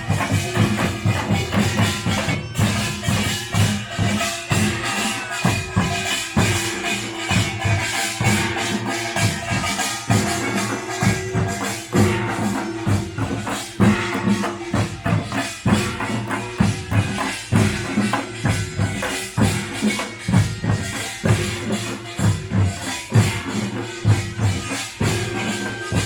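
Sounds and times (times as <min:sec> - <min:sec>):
drums beating fast rhythm: 0:00.0 - 0:26.0
small gongs clanging: 0:00.0 - 0:26.0.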